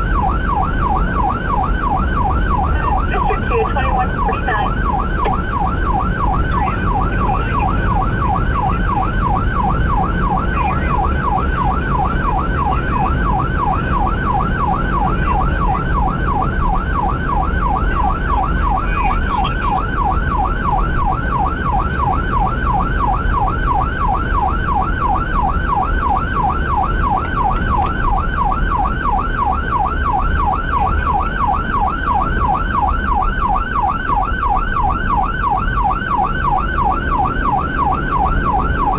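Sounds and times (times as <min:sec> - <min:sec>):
electronic siren yelping: 0:00.0 - 0:38.9
engine and road rumble: 0:00.0 - 0:38.9.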